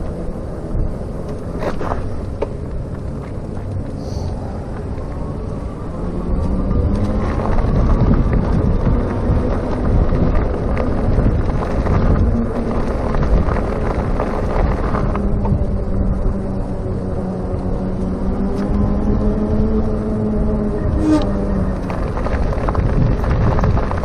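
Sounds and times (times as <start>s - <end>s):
road and tyre noise: 0.0s - 24.0s
wind on microphone: 0.0s - 24.0s.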